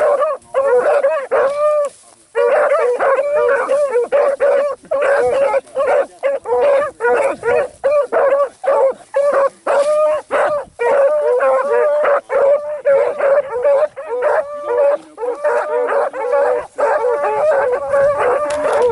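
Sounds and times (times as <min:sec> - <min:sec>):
dogs barking: 0:00.0 - 0:18.9
hounds baying: 0:00.0 - 0:18.9.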